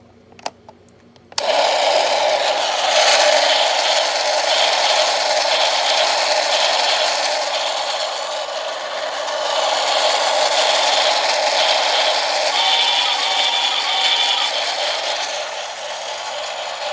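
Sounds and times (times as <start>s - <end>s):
toy train whirring rattle: 1.4s - 16.9s.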